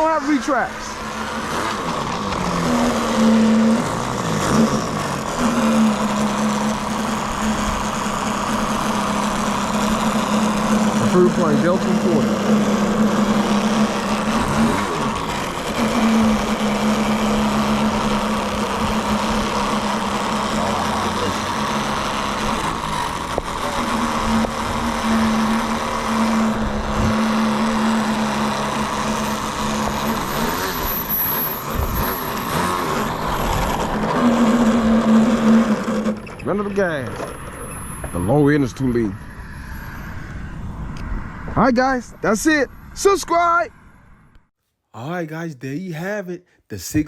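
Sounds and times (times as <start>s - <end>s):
model airplane engine: 0.0s - 41.2s.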